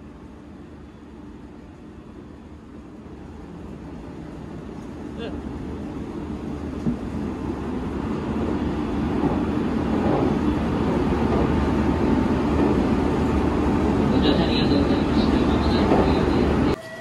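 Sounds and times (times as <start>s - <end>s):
train rumble from inside: 0.0s - 17.0s.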